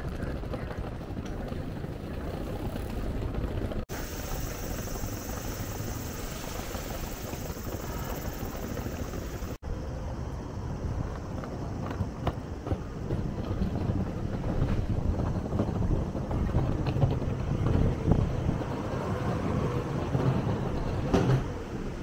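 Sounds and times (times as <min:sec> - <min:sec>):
street ambience: 0:00.0 - 0:22.0
wind rumble on microphone: 0:00.0 - 0:22.0.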